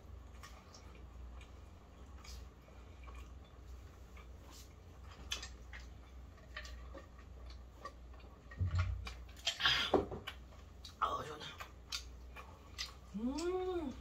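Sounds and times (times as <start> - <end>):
low steady hum: 0.0 - 14.0
people chewing and smacking: 0.0 - 14.0.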